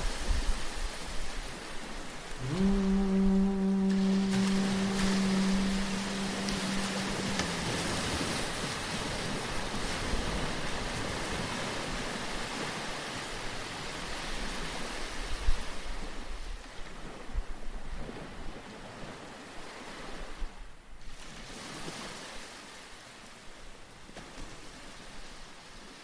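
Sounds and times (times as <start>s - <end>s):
waves breaking: 0.0s - 26.0s.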